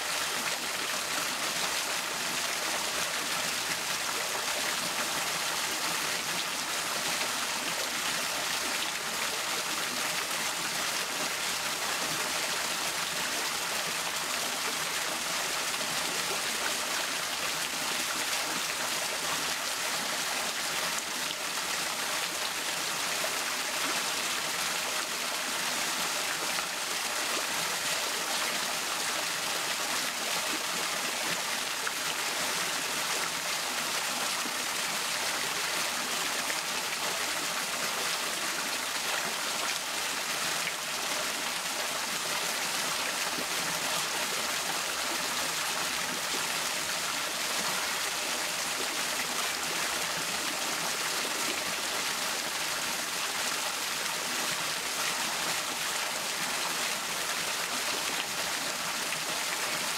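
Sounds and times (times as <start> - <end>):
small waterfall splashing: 0.0 - 59.9.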